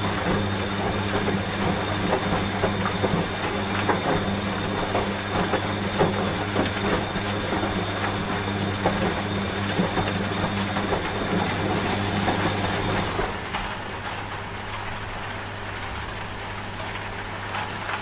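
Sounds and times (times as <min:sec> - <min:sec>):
rain drops pattering: 0:00.0 - 0:18.0
washing machine humming: 0:00.0 - 0:18.0.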